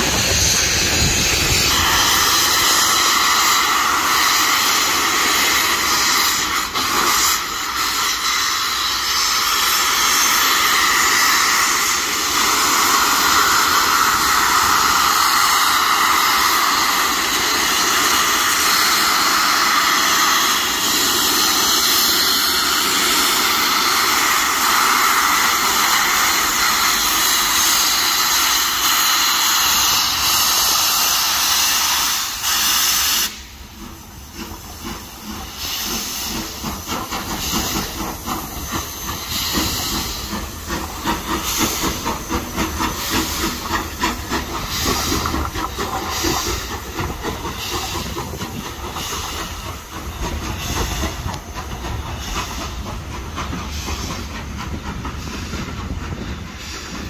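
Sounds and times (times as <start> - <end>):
train rushing past: 0.0 - 57.0
wheels clicking on rails: 0.0 - 57.0.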